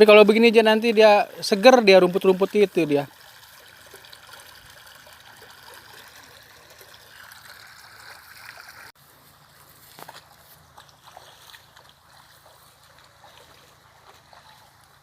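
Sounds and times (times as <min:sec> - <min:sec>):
water rushing and trickling: 0:00.0 - 0:09.0, 0:10.2 - 0:15.0.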